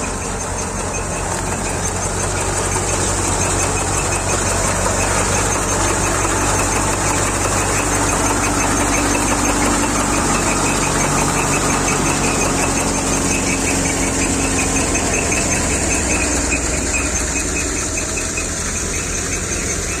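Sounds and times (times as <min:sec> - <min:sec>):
thresher running: 0:00.0 - 0:20.0.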